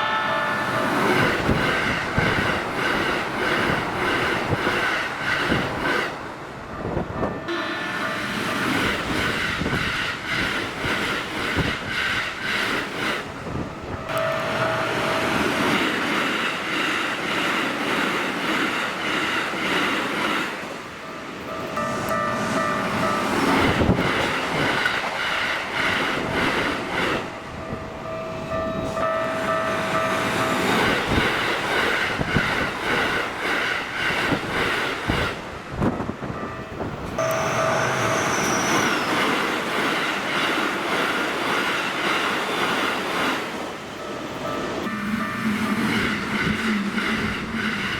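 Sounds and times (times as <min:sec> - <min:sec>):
train wheels clattering: 0:00.0 - 0:06.2, 0:07.6 - 0:20.8, 0:21.5 - 0:27.6, 0:28.8 - 0:47.9
crossing warning bell ringing: 0:00.0 - 0:18.0, 0:20.6 - 0:34.5, 0:35.1 - 0:47.9
heavy train rumble: 0:00.0 - 0:47.9.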